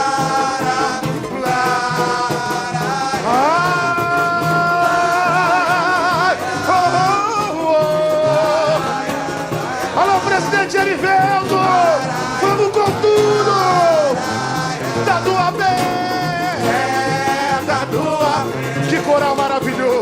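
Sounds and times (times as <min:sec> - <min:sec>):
singers and chorus singing: 0:00.0 - 0:20.0
steady drum beat: 0:00.0 - 0:20.0.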